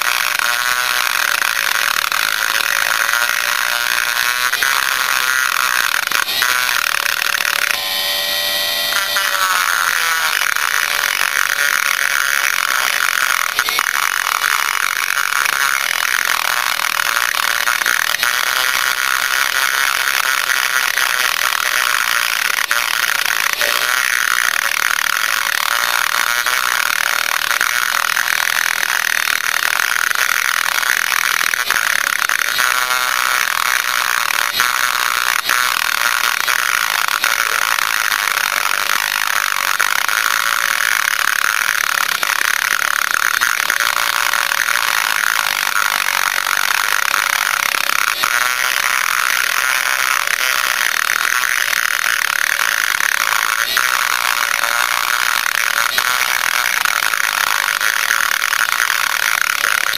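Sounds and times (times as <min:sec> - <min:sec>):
rotary tool grinding metal: 0:00.0 - 0:59.9.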